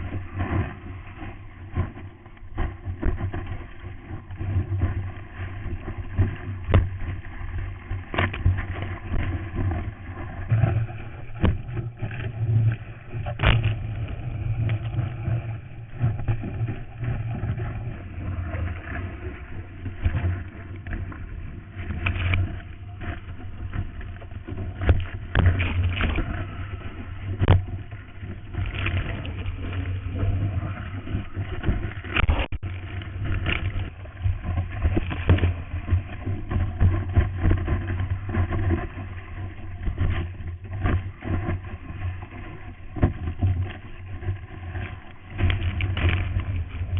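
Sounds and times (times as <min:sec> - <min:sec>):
muffled water and wind rush: 0:00.0 - 0:46.9.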